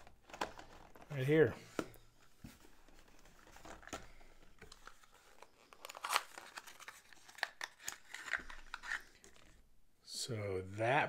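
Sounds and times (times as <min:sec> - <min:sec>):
packaging rustling and crinkling: 0:00.0 - 0:01.5, 0:02.1 - 0:09.6.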